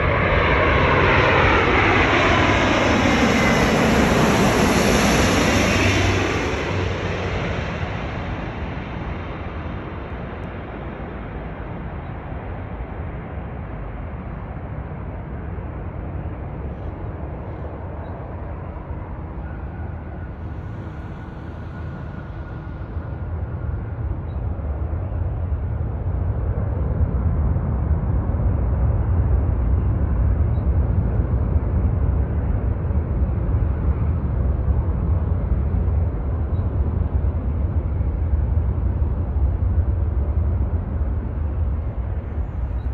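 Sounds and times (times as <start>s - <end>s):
airliner rumble: 0.0s - 42.9s.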